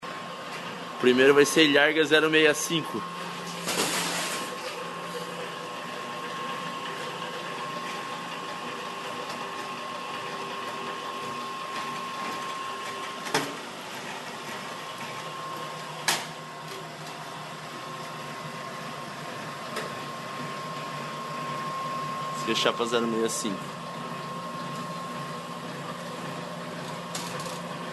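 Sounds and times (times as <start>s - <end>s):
roll-forming machine whining: 0.0s - 27.9s.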